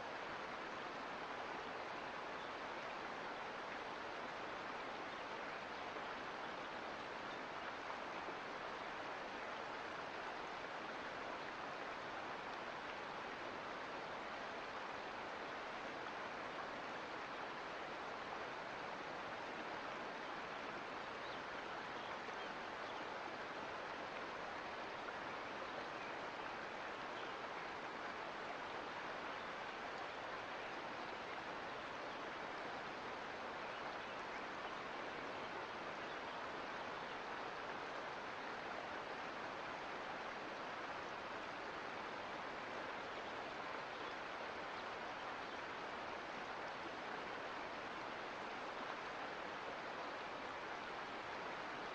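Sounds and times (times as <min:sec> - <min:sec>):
creek water running over rocks: 0:00.0 - 0:51.9.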